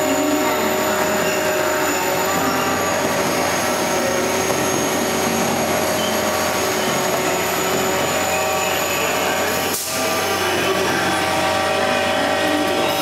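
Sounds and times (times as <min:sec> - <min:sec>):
crane mechanical drone: 0:00.0 - 0:13.0.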